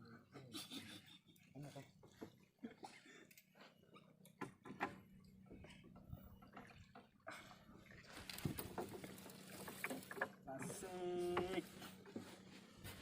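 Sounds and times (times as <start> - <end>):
water splashing and sloshing: 1.5 - 13.0.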